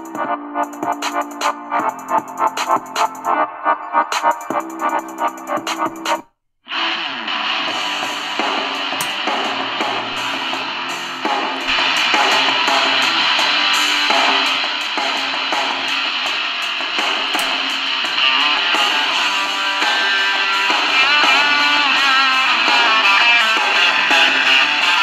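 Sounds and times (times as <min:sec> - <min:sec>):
song on radio speaker: 0:00.0 - 0:25.0.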